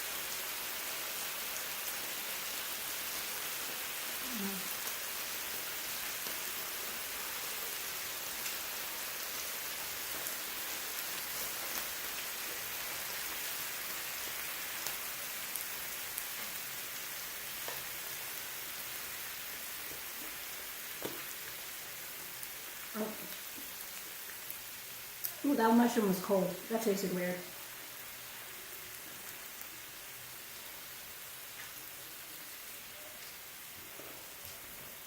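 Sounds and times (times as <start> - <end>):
meat sizzling on a grill: 0.0 - 35.0.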